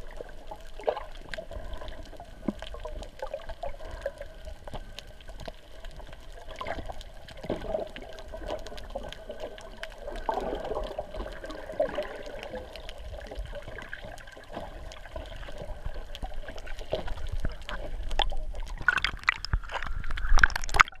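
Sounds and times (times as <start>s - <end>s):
bubbles: 0.0s - 21.0s
water splashing: 0.0s - 21.0s
underwater crackling clicks: 0.2s - 21.0s.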